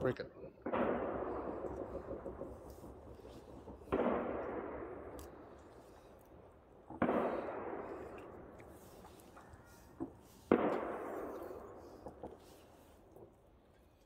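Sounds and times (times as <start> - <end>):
fireworks booms echoing: 0.6 - 13.3.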